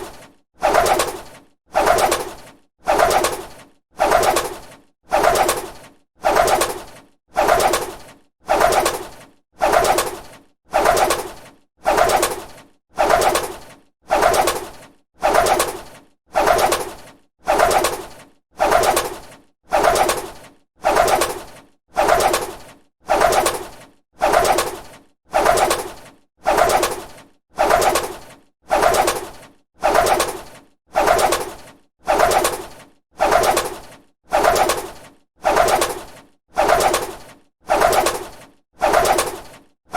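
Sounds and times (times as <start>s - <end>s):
bird wings flapping: 0.0s - 39.7s.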